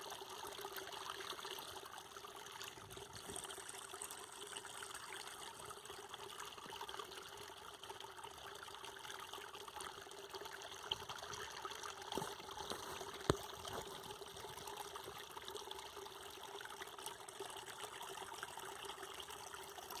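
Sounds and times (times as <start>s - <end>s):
water trickling: 0.0s - 20.0s.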